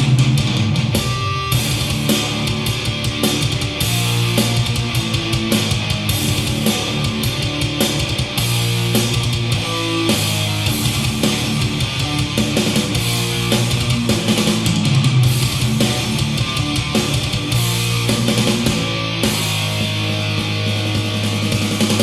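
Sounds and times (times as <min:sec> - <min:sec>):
heavy rock music with guitar: 0:00.0 - 0:22.0.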